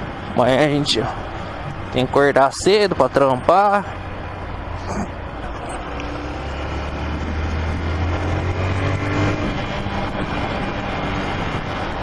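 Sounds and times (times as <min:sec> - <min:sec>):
road noise: 0:00.0 - 0:12.0
rushing wind: 0:00.0 - 0:12.0.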